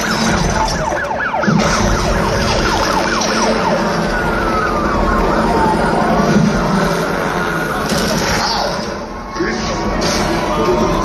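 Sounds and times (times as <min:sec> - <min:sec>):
siren sound effect: 0:00.0 - 0:11.0.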